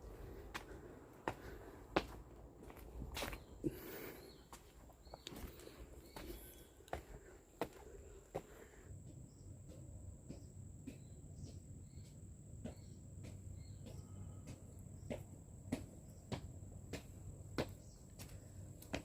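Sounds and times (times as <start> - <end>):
footsteps walking: 0.0 - 19.0.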